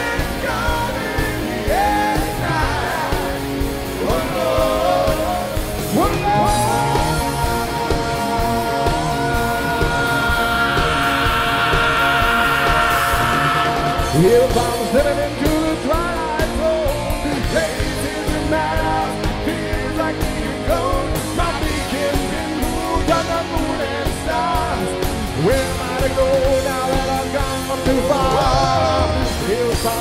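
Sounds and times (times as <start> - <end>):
bending guitar melody: 0.0 - 30.0
live rock band playing: 0.0 - 30.0.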